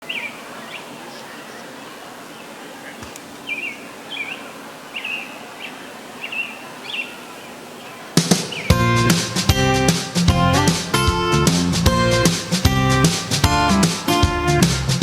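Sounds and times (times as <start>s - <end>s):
birds chirping: 0.0s - 15.0s
steady background hiss: 0.0s - 15.0s.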